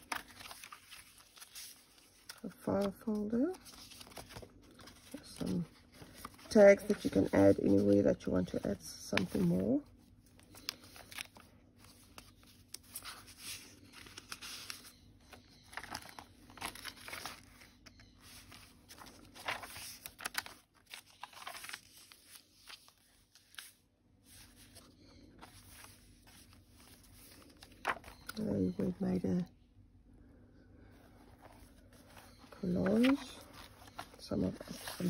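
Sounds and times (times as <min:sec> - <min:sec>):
paper pages rustling: 0:00.0 - 0:28.6, 0:30.9 - 0:35.0.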